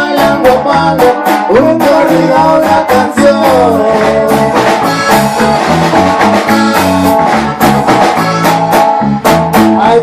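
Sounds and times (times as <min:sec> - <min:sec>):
band playing strummed strings: 0:00.0 - 0:10.0
steady bass line: 0:00.0 - 0:10.0.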